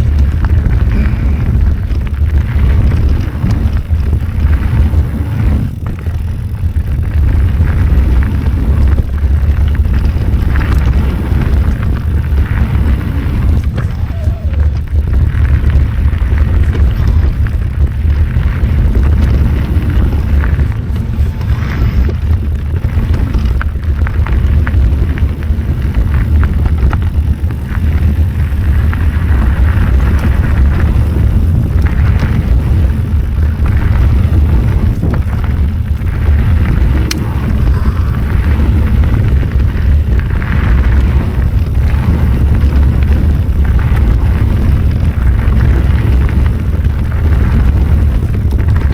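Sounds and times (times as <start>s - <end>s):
bike rattling: 0.0s - 48.9s
tyres crackling over dirt: 0.0s - 48.9s
wind rumble on microphone: 0.0s - 48.9s.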